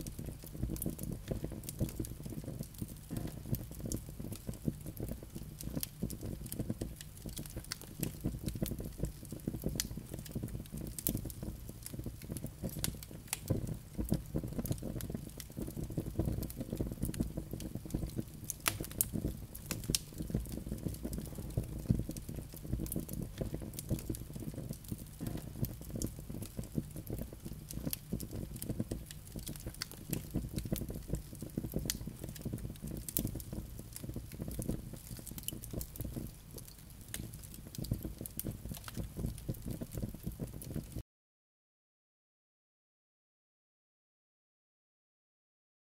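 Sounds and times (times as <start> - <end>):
burning wood crackling and popping: 0.0 - 41.0
low rush of flame: 0.0 - 41.0.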